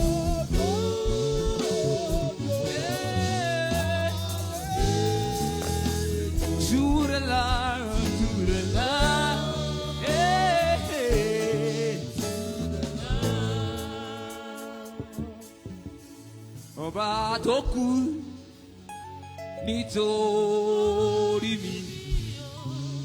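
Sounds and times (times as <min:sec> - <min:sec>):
person singing gospel: 0:00.0 - 0:18.7, 0:19.6 - 0:23.0
instrumental accompaniment with bass: 0:00.0 - 0:23.0.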